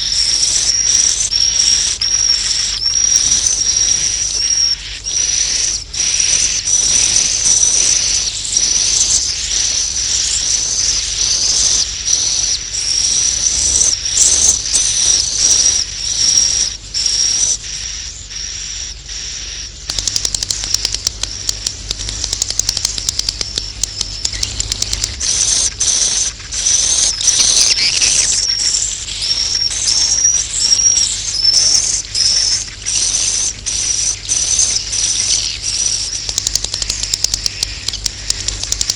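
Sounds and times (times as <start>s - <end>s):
swiftlets twittering: 0.0s - 38.9s.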